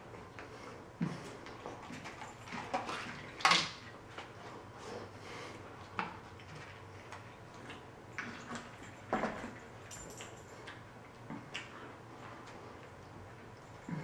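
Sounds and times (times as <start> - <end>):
man chewing with mouth full: 0.1 - 14.0.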